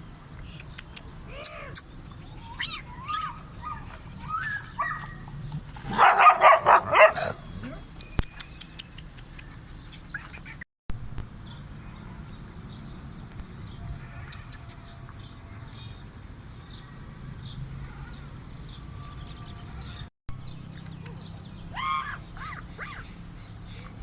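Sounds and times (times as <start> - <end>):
birds calling: 0.2 - 10.6, 11.4 - 24.0.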